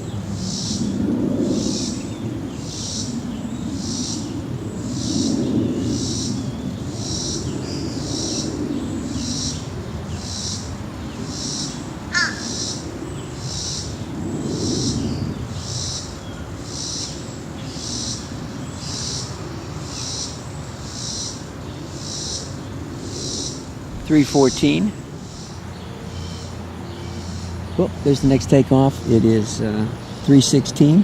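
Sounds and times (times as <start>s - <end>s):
distant jet airliner rumble: 0.0s - 31.0s.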